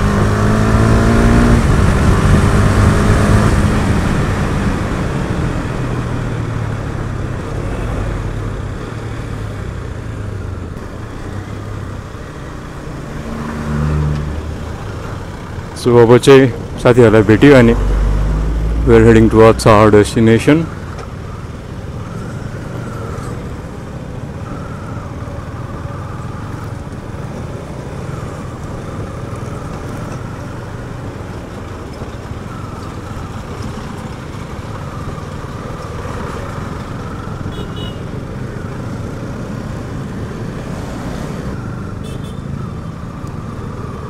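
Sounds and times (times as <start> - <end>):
surrounding traffic: 0.0 - 44.0.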